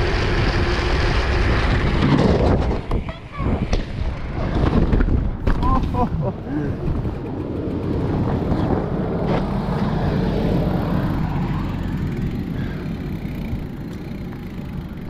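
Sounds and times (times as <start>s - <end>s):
bike rolling over grass: 0.0s - 6.1s, 6.7s - 15.0s
wind buffeting microphone: 0.0s - 15.0s.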